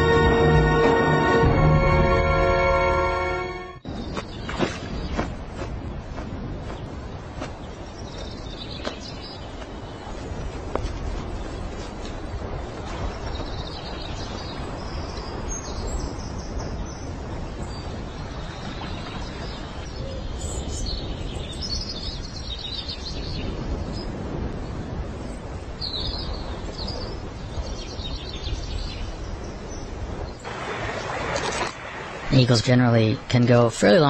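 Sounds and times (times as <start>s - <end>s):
outdoor background noise: 3.8s - 34.0s.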